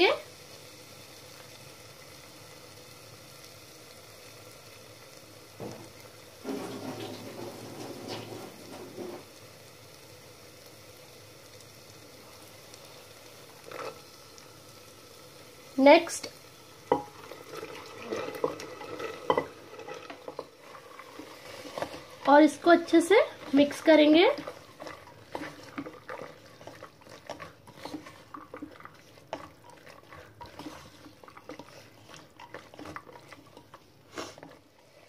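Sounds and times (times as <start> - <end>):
masala sizzling in a pot: 0.0 - 35.0.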